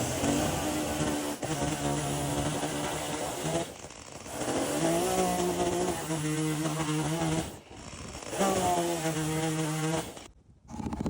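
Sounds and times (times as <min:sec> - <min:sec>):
chainsaw cutting timber: 0:00.0 - 0:10.4.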